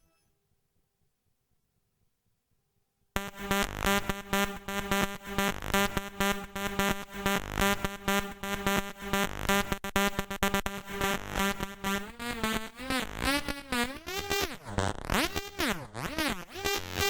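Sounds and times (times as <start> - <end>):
pulsing synthesizer siren: 3.2 - 17.0.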